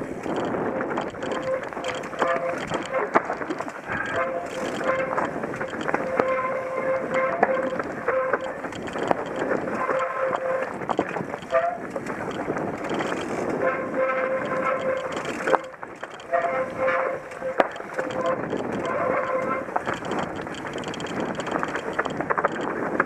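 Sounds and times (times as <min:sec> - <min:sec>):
steady buzzing tone: 0:00.0 - 0:22.7
bike rattling over stones: 0:00.0 - 0:23.0
sharp clicks and knocks: 0:00.0 - 0:23.0.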